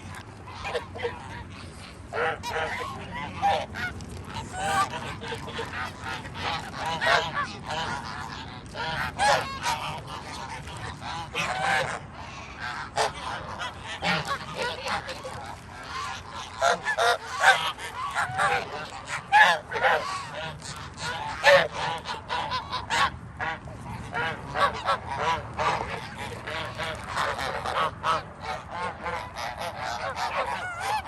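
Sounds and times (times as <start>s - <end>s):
flock of geese honking: 0.0s - 31.0s.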